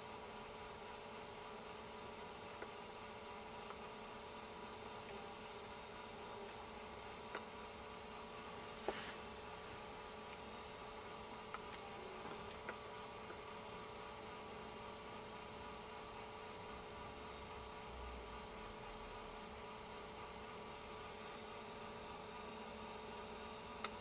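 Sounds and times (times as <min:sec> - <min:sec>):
faint hum of held tones: 0:00.0 - 0:24.0.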